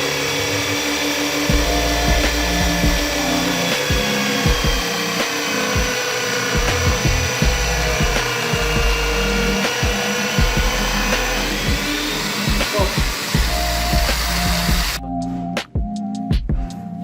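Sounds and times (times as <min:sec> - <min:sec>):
power tool motor whine: 0:00.0 - 0:15.0
background music with bass: 0:00.0 - 0:17.0.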